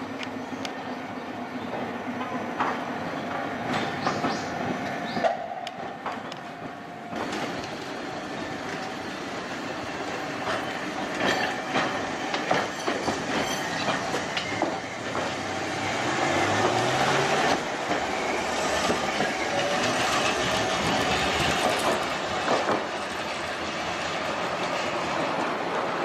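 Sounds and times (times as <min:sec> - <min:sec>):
streetcar motor whine: 0:00.0 - 0:26.0
streetcar rumble: 0:00.0 - 0:26.0
wheels clicking over rail joints: 0:01.6 - 0:26.0.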